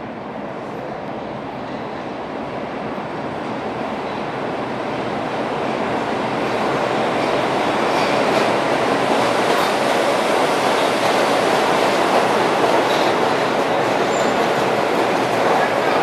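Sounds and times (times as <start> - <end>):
diesel locomotive train passing: 0.0 - 16.0.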